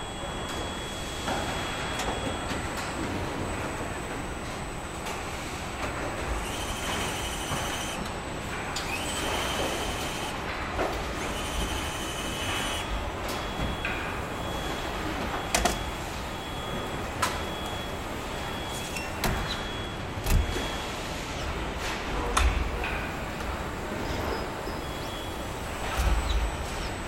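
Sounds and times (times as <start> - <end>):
high-pitched machine whines: 0.0 - 10.4, 11.0 - 21.6, 23.0 - 27.0
steady machinery hum: 0.0 - 27.0.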